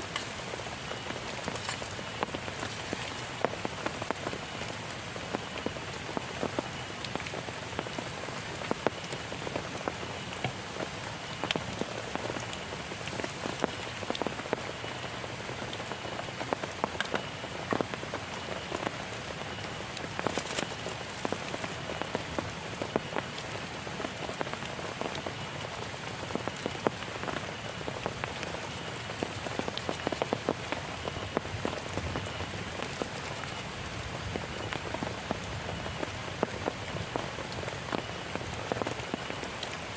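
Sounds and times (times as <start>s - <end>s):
heavy rain falling: 0.0s - 39.9s
raindrops tapping nearby: 0.0s - 39.9s.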